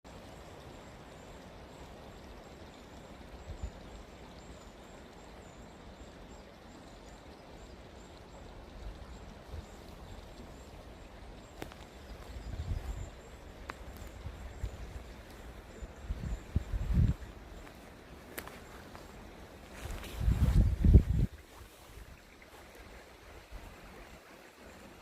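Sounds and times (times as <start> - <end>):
forest ambience hiss: 0.0 - 25.0.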